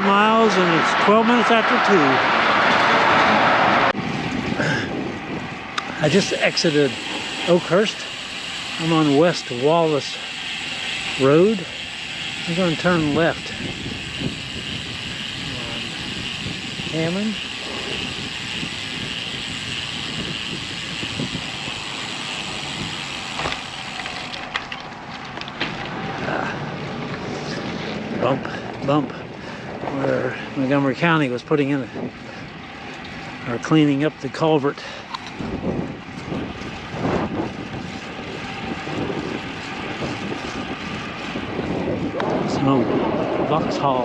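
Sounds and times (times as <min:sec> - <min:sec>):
bicycle wind and tyre noise: 0:00.0 - 0:44.0.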